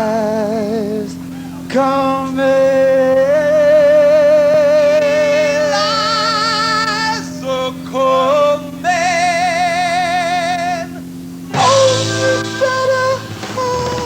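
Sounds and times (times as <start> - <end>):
wordless singing with vibrato: 0.0 - 14.0.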